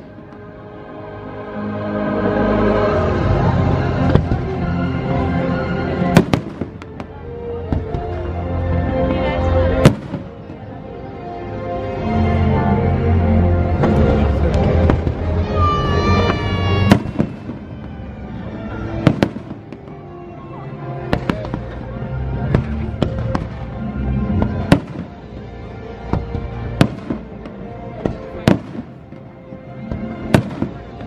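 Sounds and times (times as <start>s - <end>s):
soundtrack music: 0.0s - 31.0s.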